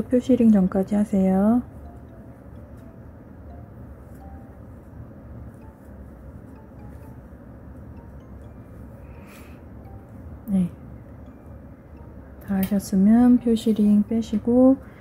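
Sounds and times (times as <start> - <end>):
soft background melody: 0.0 - 15.0.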